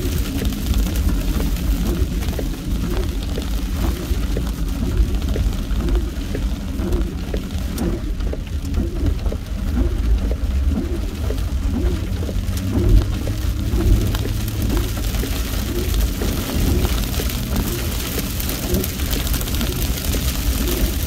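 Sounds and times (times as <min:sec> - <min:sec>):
heavy rain pelting a car: 0:00.0 - 0:21.0
low road and engine rumble: 0:00.0 - 0:21.0.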